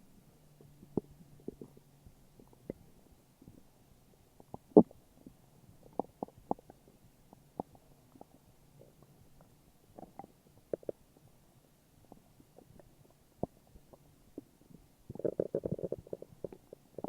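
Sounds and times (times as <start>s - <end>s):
stomach growling and gurgling: 0.6s - 11.4s, 12.0s - 17.0s.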